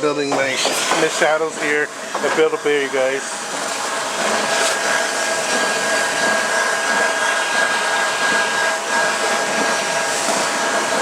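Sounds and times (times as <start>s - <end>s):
stuffing machine blower whirring: 0.0s - 11.0s.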